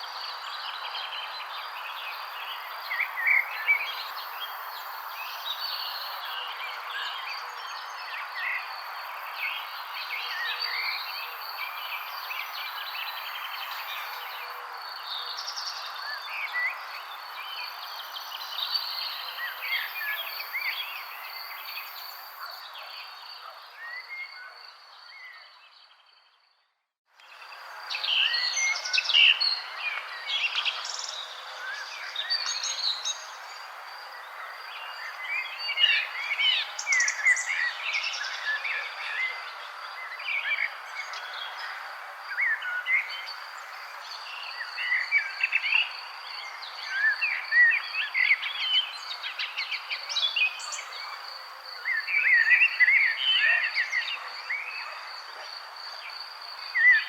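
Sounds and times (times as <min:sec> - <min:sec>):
songbirds chirping and trilling: 0:00.0 - 0:26.6, 0:27.2 - 0:57.0.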